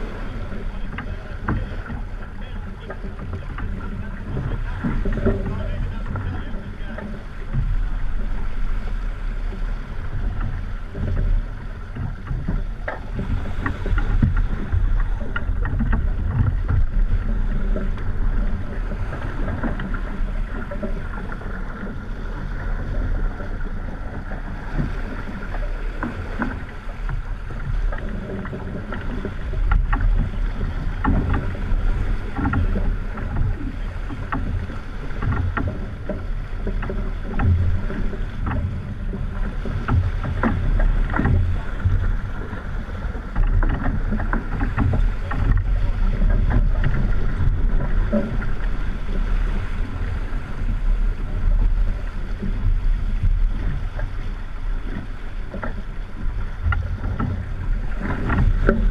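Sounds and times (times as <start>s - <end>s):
knocks and splashes: 0.0s - 58.9s
water rushing along hull: 0.0s - 58.9s
wind buffeting microphone: 0.0s - 58.9s.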